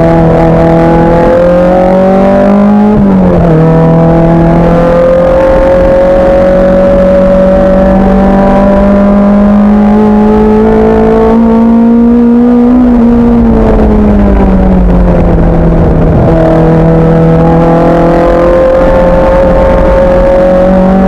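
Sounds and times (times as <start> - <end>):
racing car engine revving: 0.0 - 21.0.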